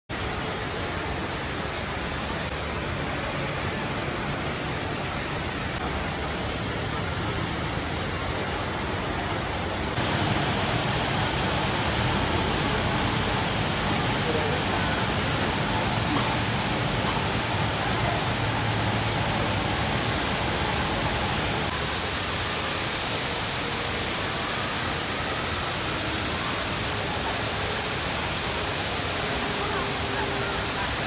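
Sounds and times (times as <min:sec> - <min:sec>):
indoor waterfall rushing into pool: 0:00.1 - 0:31.0.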